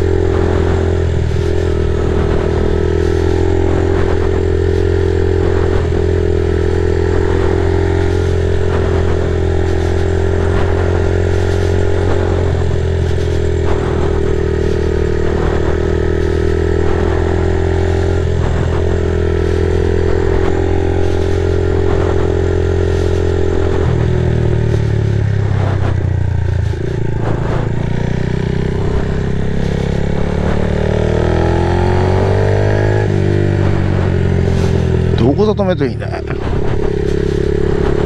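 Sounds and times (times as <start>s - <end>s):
moped engine running: 0.0s - 38.0s.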